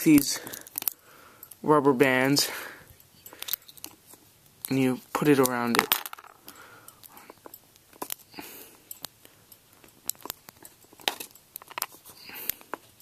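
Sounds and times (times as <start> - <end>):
small clicks and light rustling: 0.0 - 1.7, 2.8 - 13.0.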